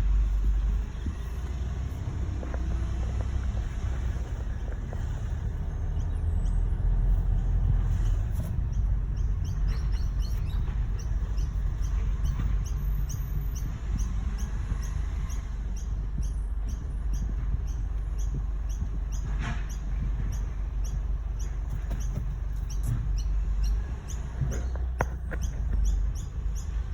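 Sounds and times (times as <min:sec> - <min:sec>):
vehicle engine running: 0:00.0 - 0:26.9.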